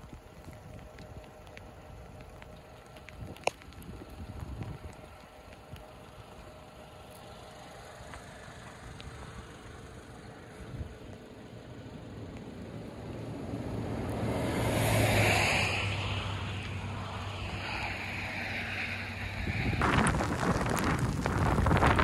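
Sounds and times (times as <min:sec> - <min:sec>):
vehicle passing on wet road: 0:00.0 - 0:22.0.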